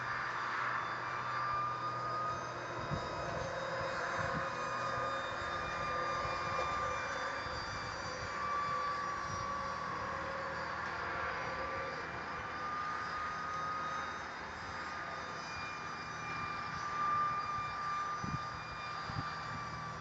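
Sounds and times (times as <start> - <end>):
electric fan jet whine: 0.0 - 20.0.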